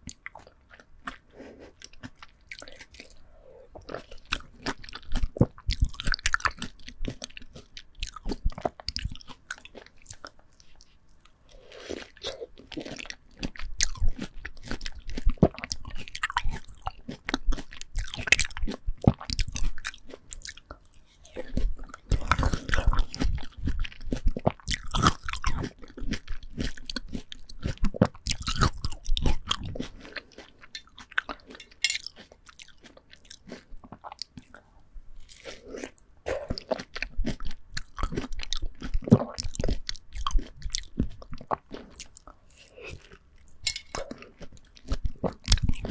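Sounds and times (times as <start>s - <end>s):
chewing juicy melon: 0.0s - 45.9s.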